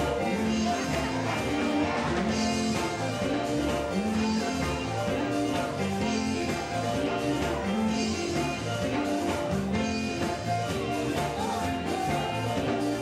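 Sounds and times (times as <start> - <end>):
electric guitar: 0.0 - 13.0
live gospel band: 0.0 - 13.0.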